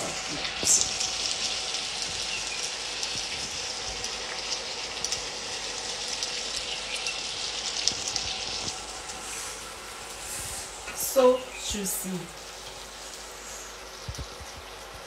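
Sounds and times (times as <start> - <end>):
sauce sizzling in a frying pan: 0.0 - 14.9.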